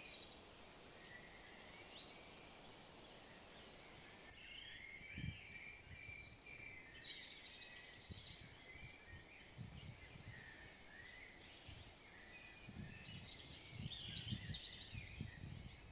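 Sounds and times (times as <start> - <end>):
faint outdoor hiss: 0.0 - 15.9
songbirds chirping: 0.0 - 15.9.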